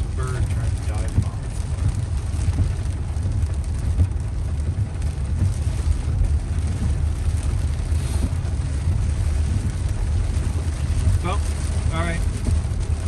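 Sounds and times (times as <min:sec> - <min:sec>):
car road rumble on wet road: 0:00.0 - 0:13.0.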